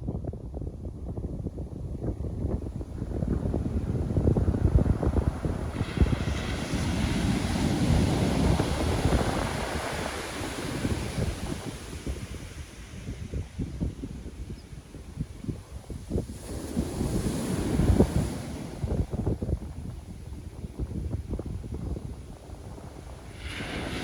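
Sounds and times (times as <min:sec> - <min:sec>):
wind buffeting microphone: 0:00.0 - 0:24.0
ocean wave breaking: 0:02.8 - 0:14.4, 0:15.3 - 0:20.9, 0:21.8 - 0:24.0.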